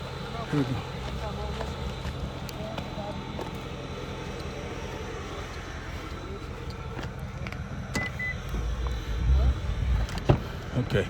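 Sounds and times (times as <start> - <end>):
car cabin low rumble: 0.0 - 11.0.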